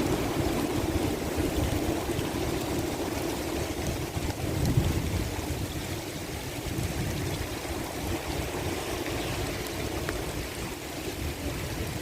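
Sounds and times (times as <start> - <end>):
rushing water: 0.0 - 12.0
wind gusting on microphone: 0.0 - 12.0.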